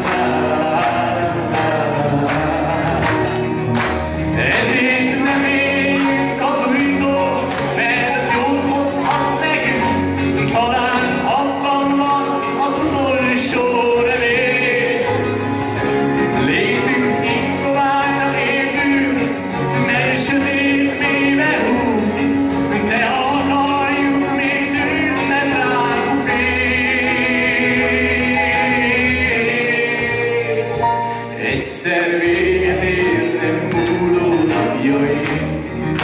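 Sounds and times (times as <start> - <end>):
keyboard accompaniment: 0.0 - 36.0
man singing into microphone: 0.0 - 36.0.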